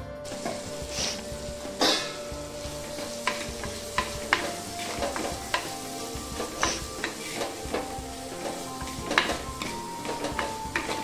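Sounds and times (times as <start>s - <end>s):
vegetables sizzling in hot oil: 0.2s - 11.0s
spoon knocking against pot: 0.4s - 11.0s.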